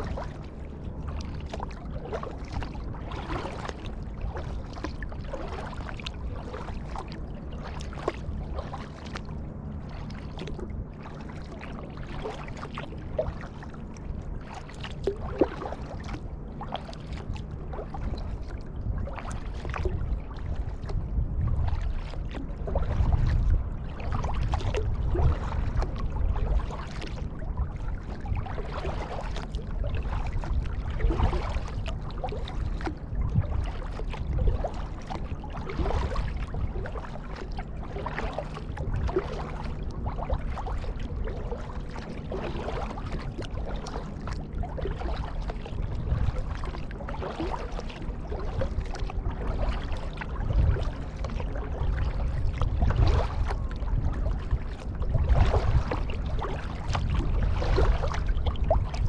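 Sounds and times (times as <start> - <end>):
paddle splashing in water: 0.0 - 59.0
water rumbling along hull: 0.0 - 59.0.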